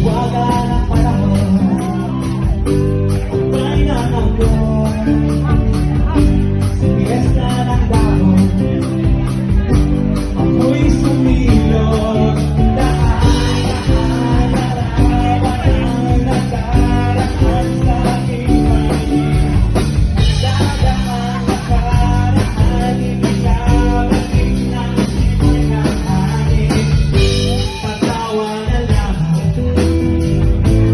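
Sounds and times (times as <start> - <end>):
live band playing: 0.0 - 30.9
person singing: 0.0 - 30.9.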